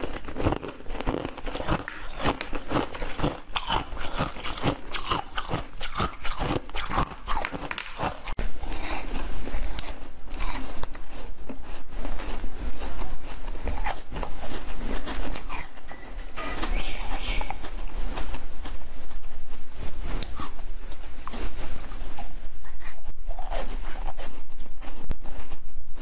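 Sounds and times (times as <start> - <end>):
crunching and chewing frozen treat: 0.0 - 19.2, 20.0 - 26.0.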